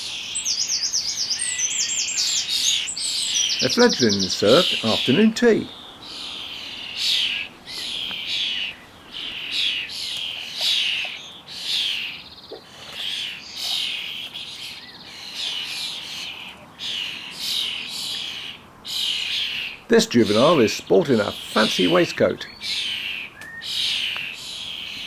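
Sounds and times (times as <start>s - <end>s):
young starling begging calls: 0.0s - 25.0s.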